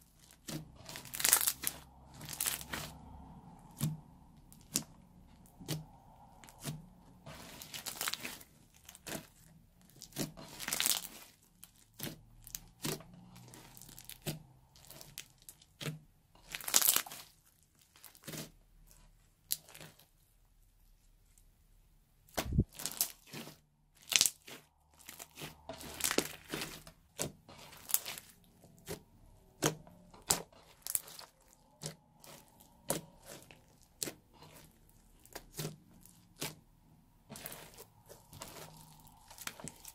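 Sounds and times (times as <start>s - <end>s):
foam bead slime crunching: 0.0s - 20.2s, 22.2s - 39.9s.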